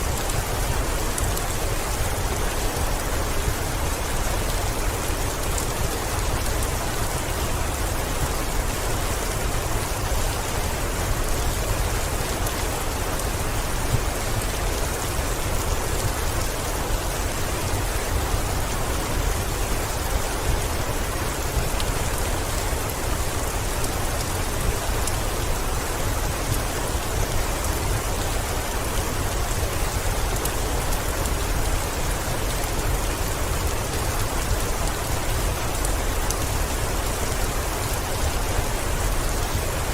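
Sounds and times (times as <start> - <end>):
heavy rain on window: 0.0 - 39.9.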